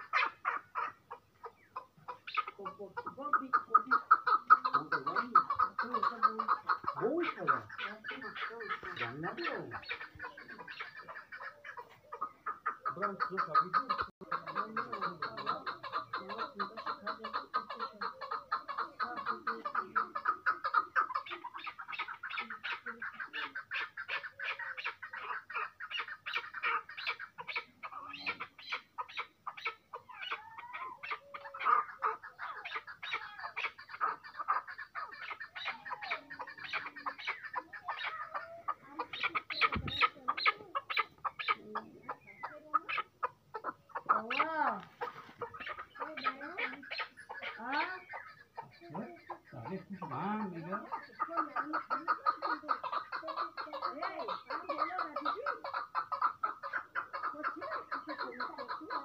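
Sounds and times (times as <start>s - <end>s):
partridge clucking call: 0.0s - 59.0s.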